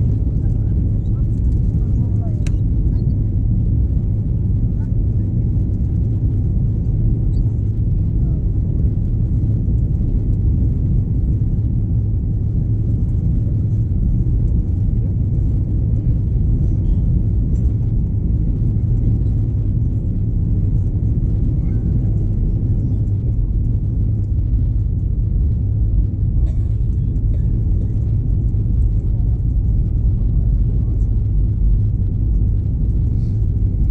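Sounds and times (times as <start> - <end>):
airplane cabin engine rumble: 0.0 - 33.9.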